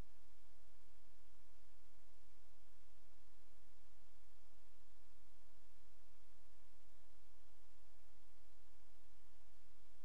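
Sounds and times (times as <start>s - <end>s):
faint steady tones: 0.0s - 10.0s.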